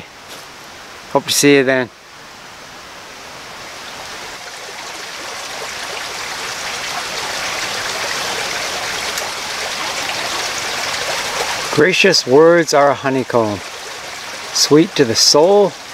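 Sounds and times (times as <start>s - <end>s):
stream rushing over rocks: 0.0s - 15.9s.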